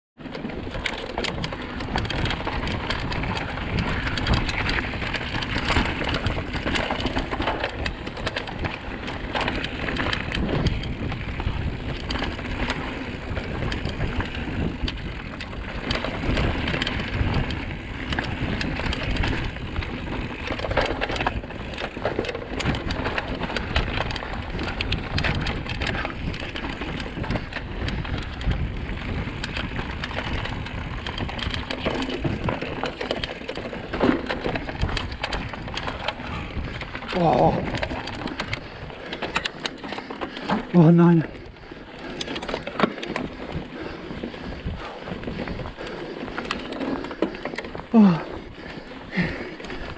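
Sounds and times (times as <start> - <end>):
bike rattling and knocking: 0.2 - 49.9
tyres rolling over dirt: 0.2 - 49.9.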